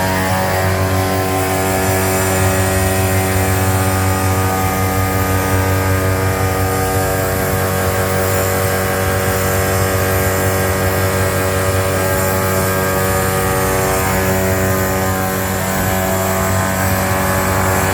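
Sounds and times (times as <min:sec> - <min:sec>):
machine humming: 0:00.0 - 0:17.9.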